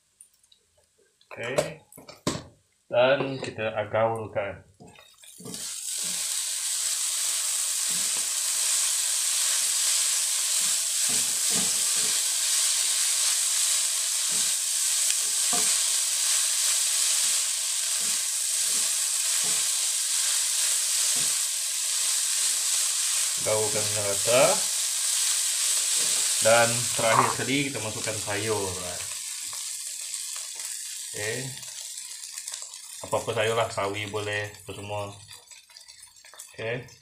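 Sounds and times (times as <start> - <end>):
noodles sizzling in a wok: 5.1 - 34.3, 35.1 - 36.5.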